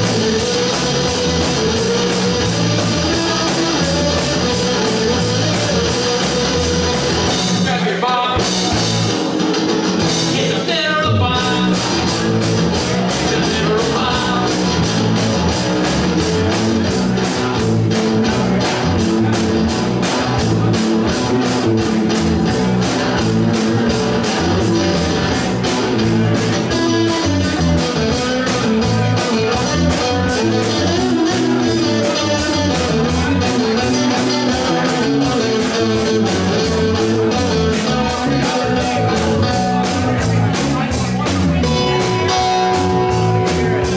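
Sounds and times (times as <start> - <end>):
fast drumbeat: 0.0 - 10.7, 11.4 - 43.9
distorted electric guitars: 0.0 - 43.9.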